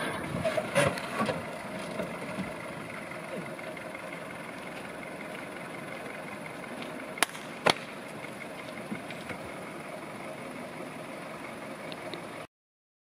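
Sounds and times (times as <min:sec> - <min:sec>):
outdoor background hiss: 0:00.0 - 0:12.5.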